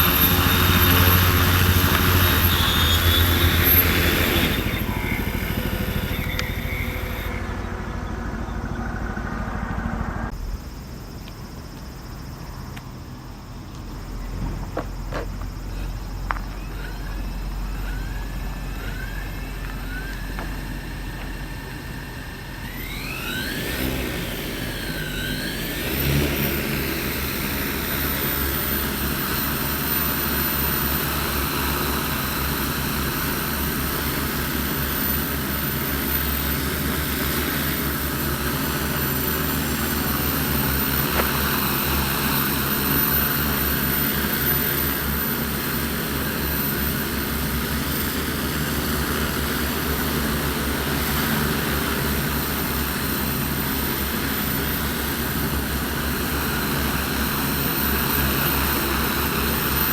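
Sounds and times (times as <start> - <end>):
drone propellers whining: 0.0 - 59.9.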